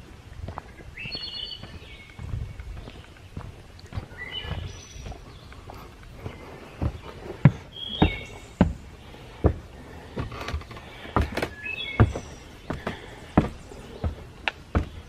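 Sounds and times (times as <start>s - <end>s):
footsteps on forest trail: 0.0s - 15.0s
bird chirps: 0.9s - 9.4s, 11.0s - 15.0s.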